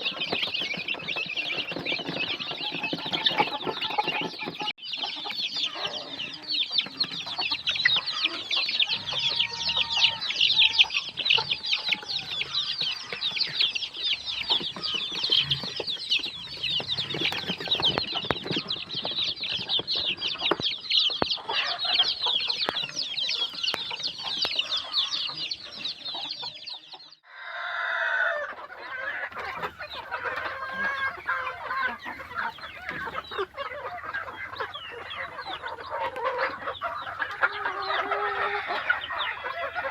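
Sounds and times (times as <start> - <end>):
adult chickens clucking: 0.0 - 39.9
baby chicks peeping: 0.0 - 39.9.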